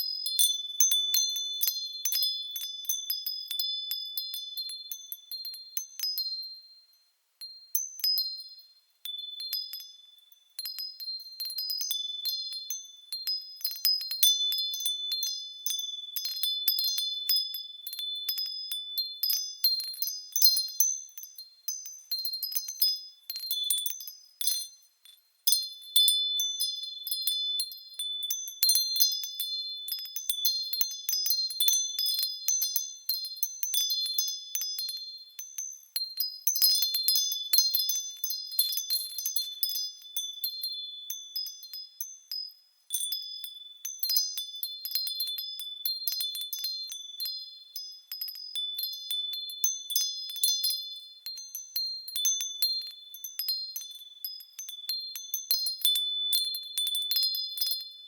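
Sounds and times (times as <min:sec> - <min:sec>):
wind chimes ringing: 0:07.4 - 0:57.9.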